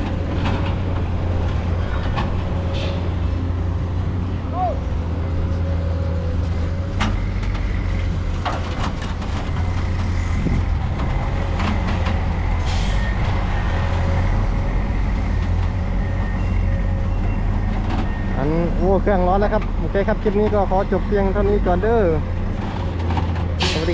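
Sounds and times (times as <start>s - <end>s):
diesel engine droning: 0.0s - 23.9s.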